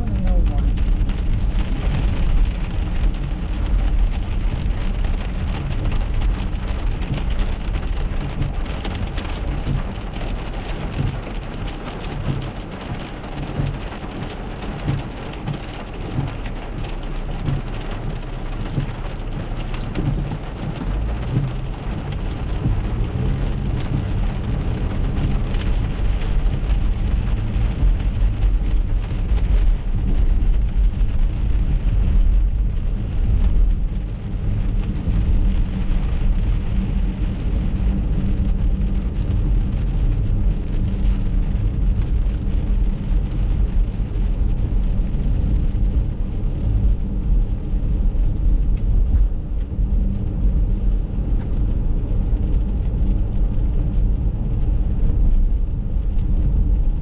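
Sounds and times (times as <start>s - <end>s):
low road and engine rumble: 0.0s - 57.0s
rain on car windshield and roof: 0.0s - 57.0s.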